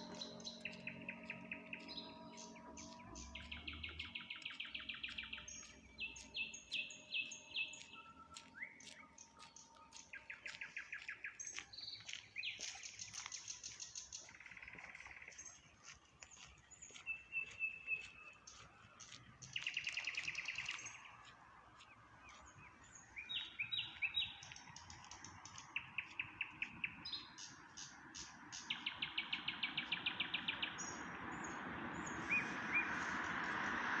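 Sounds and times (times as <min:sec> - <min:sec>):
nightingale singing: 0:00.0 - 0:15.6, 0:21.8 - 0:33.9.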